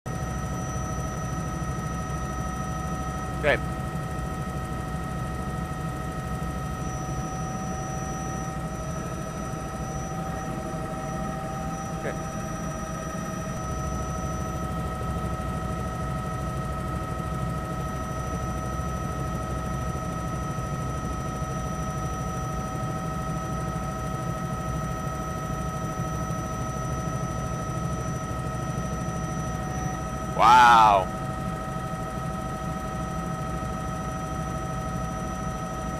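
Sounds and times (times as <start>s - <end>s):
helicopter rotor rumble: 0.1s - 35.8s.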